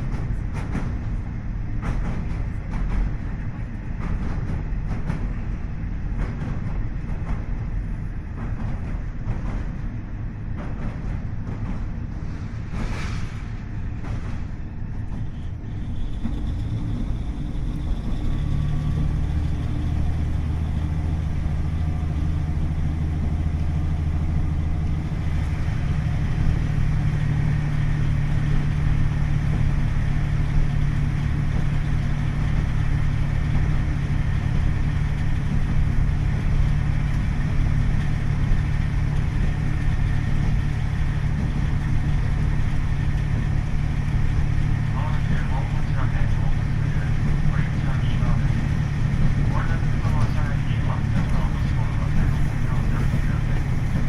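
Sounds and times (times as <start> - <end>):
diesel engine droning: 0.0 - 54.0
low train rumble: 0.0 - 54.0
train wheels clicking over rail joints: 0.0 - 54.0.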